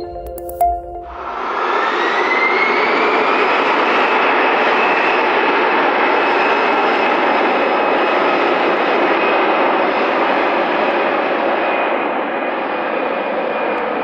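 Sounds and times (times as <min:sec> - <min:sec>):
jet engines running up: 0:01.1 - 0:14.0.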